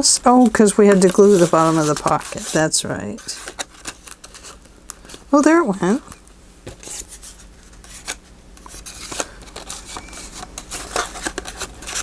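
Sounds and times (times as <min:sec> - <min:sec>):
paper rustling: 0:00.0 - 0:05.3, 0:06.6 - 0:12.0.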